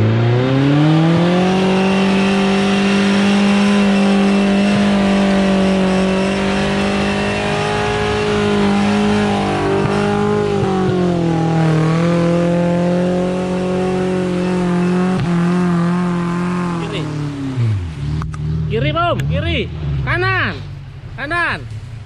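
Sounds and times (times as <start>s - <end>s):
vehicle engine running under load: 0.0s - 22.0s.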